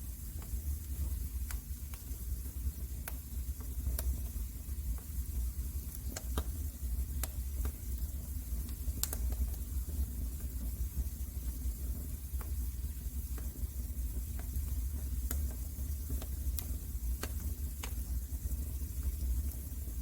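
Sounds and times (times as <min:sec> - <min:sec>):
wood fire pops and snaps: 0:00.3 - 0:02.3, 0:02.9 - 0:09.7, 0:12.3 - 0:19.8.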